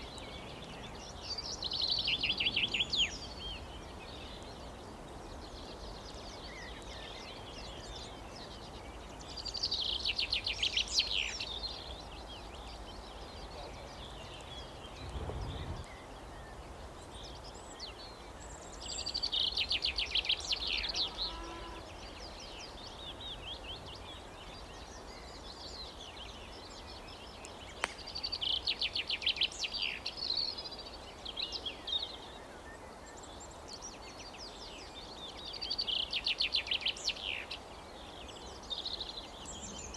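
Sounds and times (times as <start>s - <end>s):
outdoor background noise: 0.0s - 39.9s.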